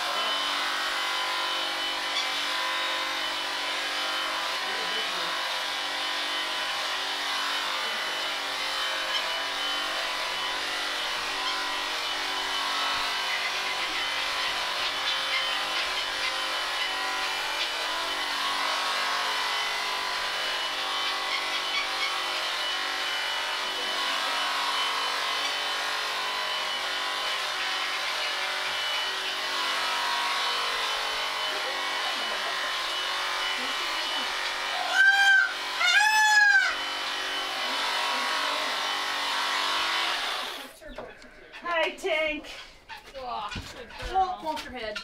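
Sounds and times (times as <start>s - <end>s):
electric shears motor hum: 0.0s - 40.9s.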